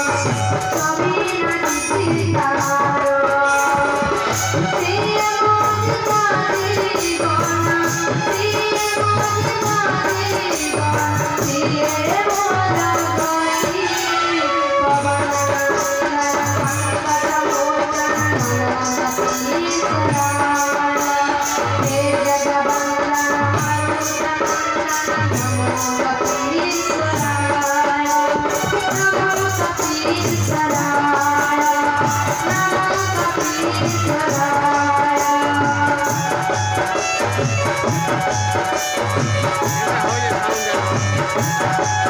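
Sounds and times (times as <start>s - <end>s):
rattling percussion: 0.0s - 42.0s.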